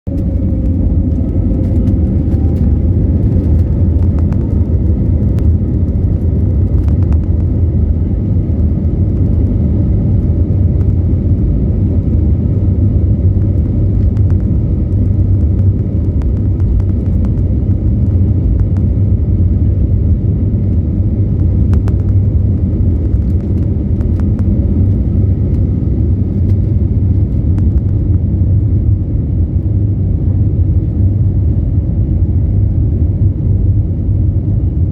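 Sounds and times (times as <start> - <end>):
jet engine cabin rumble: 0.0 - 34.9
faint whine: 0.1 - 34.9.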